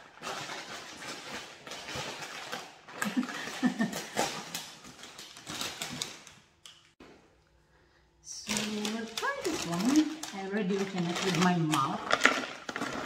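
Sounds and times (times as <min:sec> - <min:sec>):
plastic chip bag crinkling: 0:00.0 - 0:06.9, 0:08.3 - 0:13.0.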